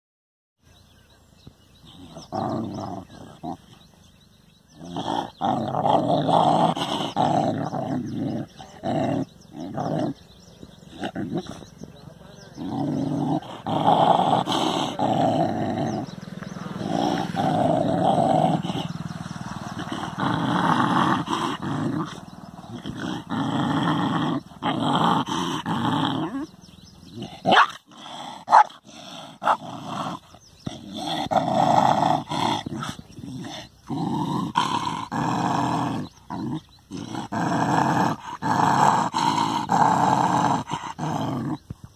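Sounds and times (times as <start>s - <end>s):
dog snarling: 1.8s - 3.9s, 4.6s - 41.8s
dog growling: 1.8s - 41.8s.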